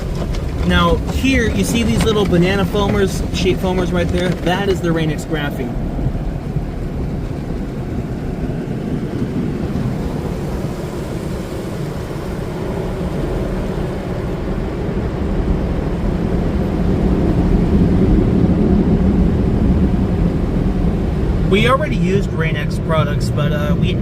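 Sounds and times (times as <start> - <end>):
car wash equipment noise: 0.0 - 24.0.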